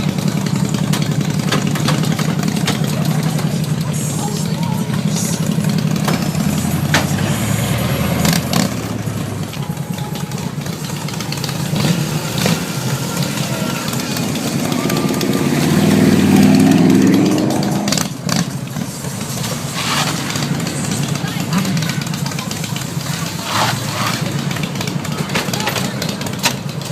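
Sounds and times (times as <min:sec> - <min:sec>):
vehicle engines idling: 0:00.0 - 0:26.9.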